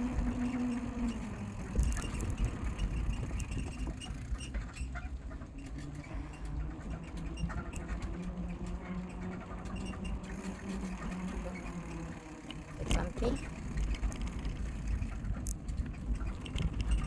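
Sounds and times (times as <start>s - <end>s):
bicycle clicks and rattles: 0.0s - 17.0s
wind rumble on microphone: 0.0s - 17.0s.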